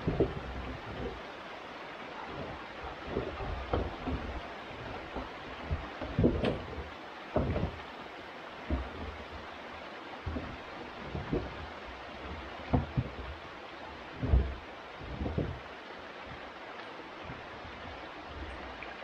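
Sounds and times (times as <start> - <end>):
water tank knocking in creek bed: 0.0 - 1.3, 2.2 - 16.5
creek water running: 0.0 - 19.0.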